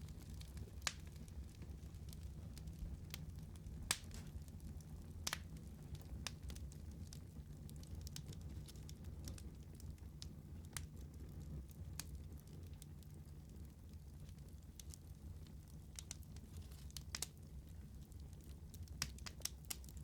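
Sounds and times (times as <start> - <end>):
fire flames rumbling: 0.0 - 20.0
wood fire crackling and popping: 0.0 - 20.0.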